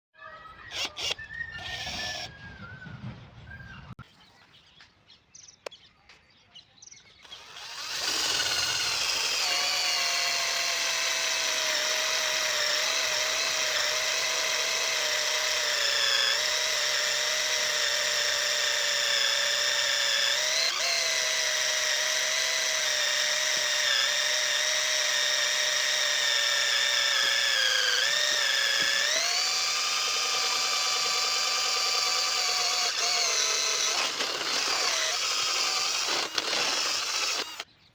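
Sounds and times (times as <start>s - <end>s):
electric drill drilling into wood: 0.7s - 2.3s, 7.2s - 37.7s.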